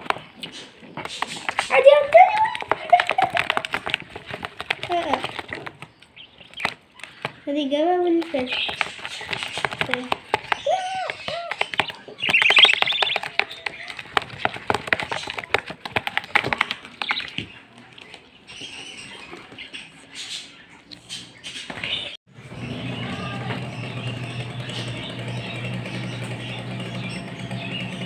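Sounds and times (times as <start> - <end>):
caged birds chirping and chattering: 0.0 - 28.0.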